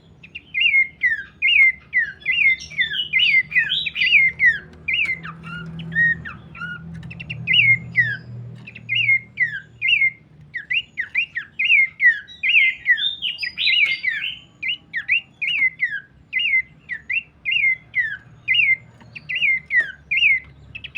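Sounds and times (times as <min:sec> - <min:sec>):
bird singing whistled notes: 0:00.0 - 0:20.9.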